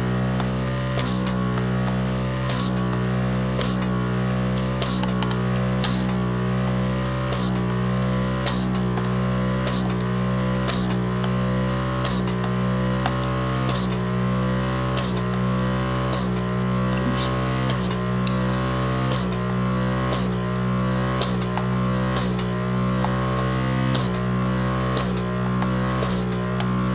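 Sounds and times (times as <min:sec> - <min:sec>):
vacuum pump humming: 0:00.0 - 0:26.9.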